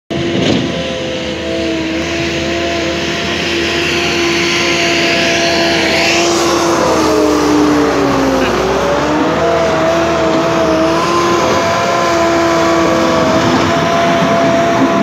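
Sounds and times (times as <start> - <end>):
diesel loader engine running: 0.1 - 15.0.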